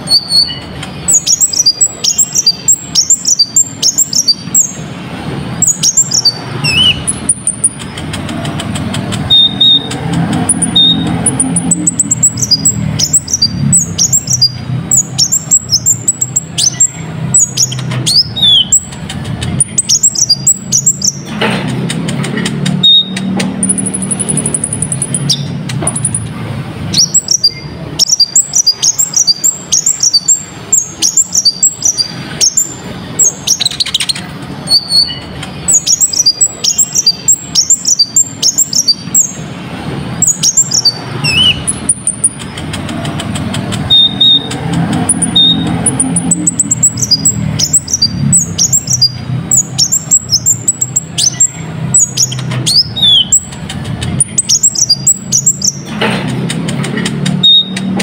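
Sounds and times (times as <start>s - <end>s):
bird chirping and whistling: 0.0s - 21.3s, 22.2s - 26.3s, 26.9s - 39.5s, 40.1s - 53.6s, 54.2s - 55.9s, 57.2s - 58.0s.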